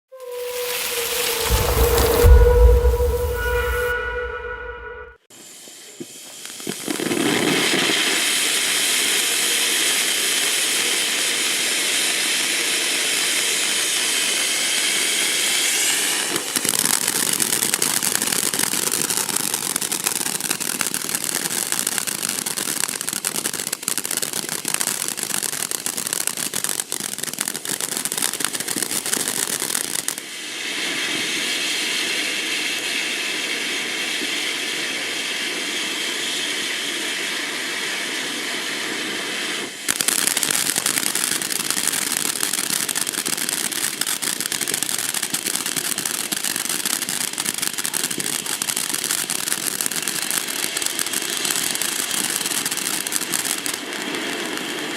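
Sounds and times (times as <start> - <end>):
firework hissing and crackling: 0.1 - 4.2, 5.3 - 54.9.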